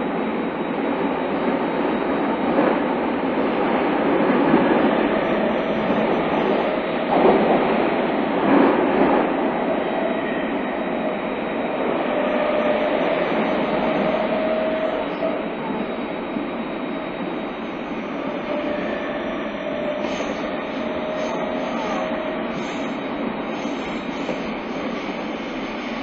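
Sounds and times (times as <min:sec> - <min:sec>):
train rumbling in tunnel: 0:00.0 - 0:26.0.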